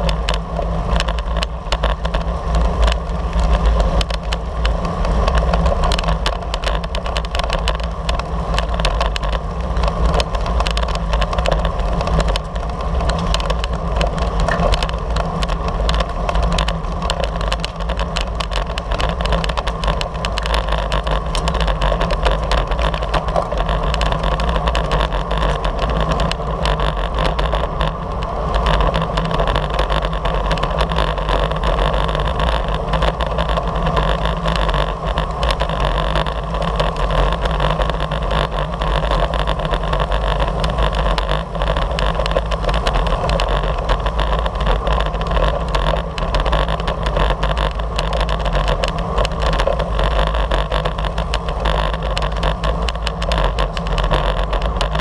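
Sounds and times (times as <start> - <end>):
wind rush on microphone: 0.0 - 55.0.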